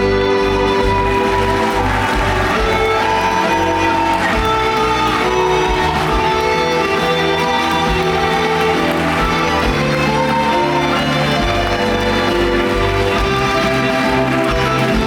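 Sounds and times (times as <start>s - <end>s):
musical band playing melody: 0.0s - 15.0s.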